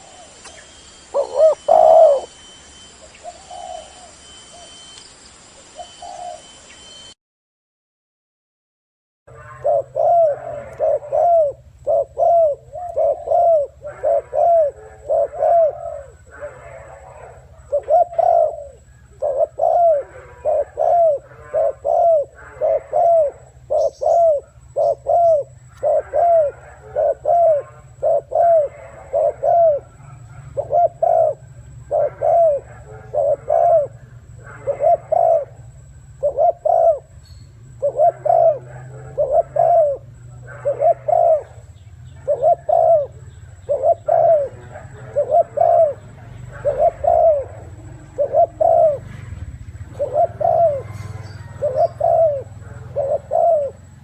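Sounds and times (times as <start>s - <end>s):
dove cooing: 0.0s - 4.9s, 5.7s - 6.8s, 9.3s - 54.0s
steady low hum: 9.3s - 54.0s.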